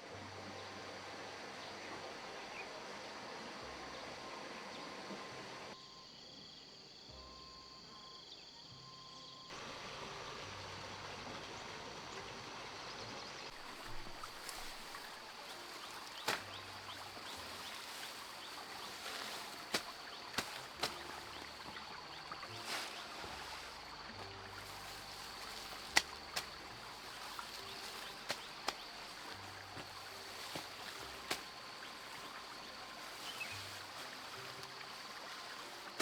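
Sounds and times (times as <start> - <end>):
steady outdoor hiss: 0.0 - 36.0.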